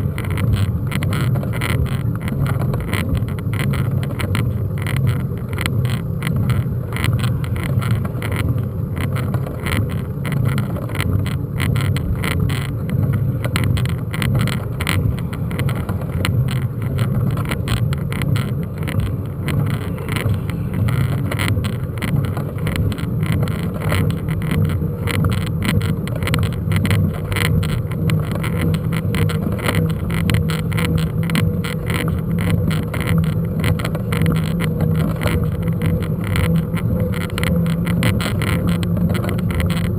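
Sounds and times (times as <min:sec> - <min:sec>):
mountain bike rattling on rough track: 0:00.0 - 0:39.9.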